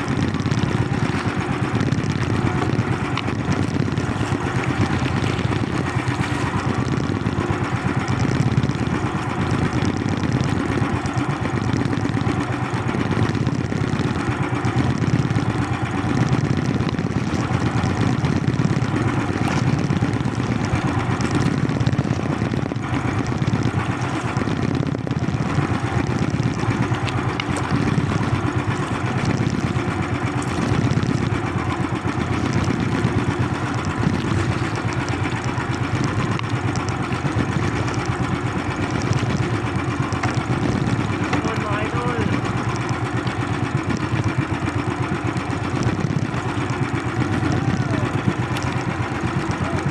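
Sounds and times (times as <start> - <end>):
small boat engine running: 0.0 - 49.9.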